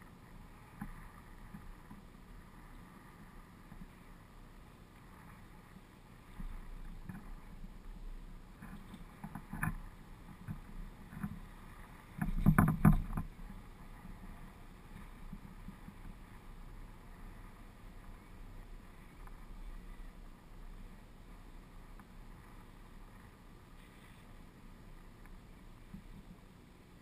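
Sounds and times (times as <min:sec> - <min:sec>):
faint steady rumble: 0:00.0 - 0:27.0.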